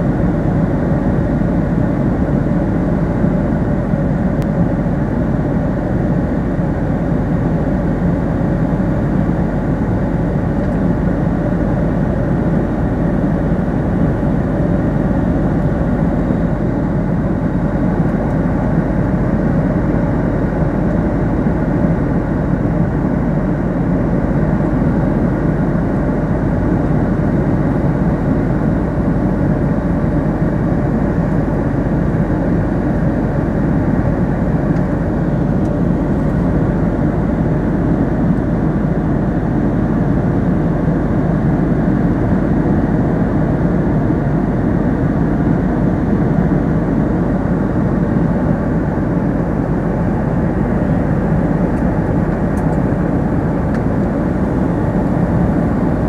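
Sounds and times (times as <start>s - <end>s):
airflow and engine drone: 0.0s - 56.0s
faint steady hum: 0.0s - 56.0s.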